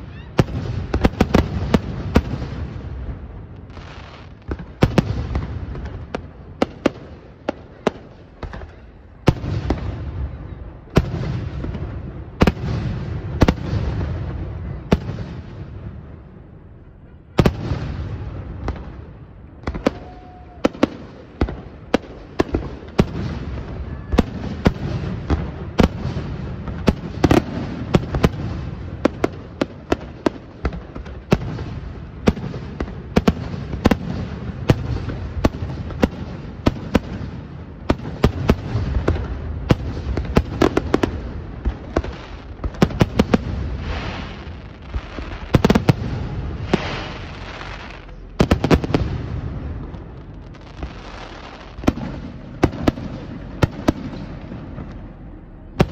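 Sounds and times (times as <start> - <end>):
fireworks bursting: 0.0 - 55.9.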